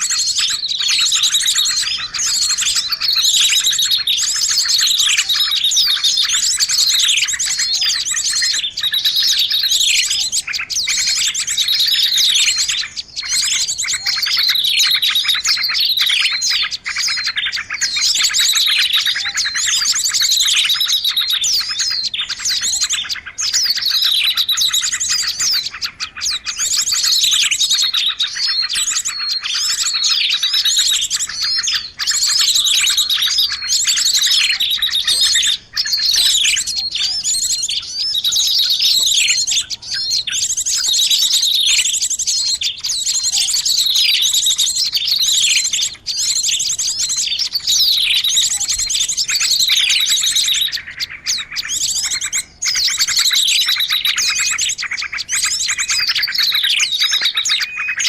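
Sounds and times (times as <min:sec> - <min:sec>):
songbird trilling: 0:00.0 - 0:58.0.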